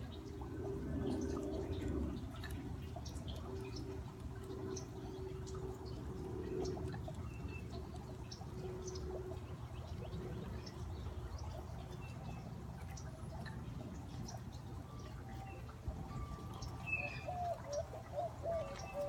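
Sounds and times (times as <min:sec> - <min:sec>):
fountain trickling: 0:00.0 - 0:19.0
small songbirds chirping: 0:00.0 - 0:19.0.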